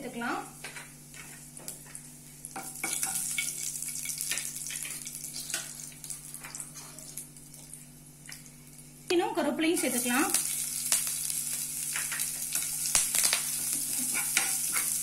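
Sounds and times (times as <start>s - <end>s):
spices sizzling in hot oil: 0.1s - 9.0s, 9.6s - 15.0s.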